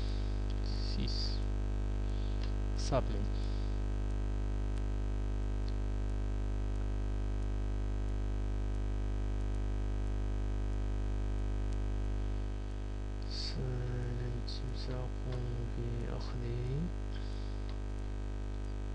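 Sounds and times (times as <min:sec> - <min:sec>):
electrical hum: 0:00.0 - 0:18.9.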